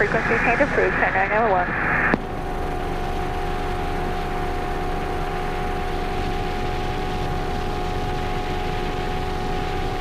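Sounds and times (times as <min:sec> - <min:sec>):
helicopter cabin noise: 0:00.0 - 0:10.0.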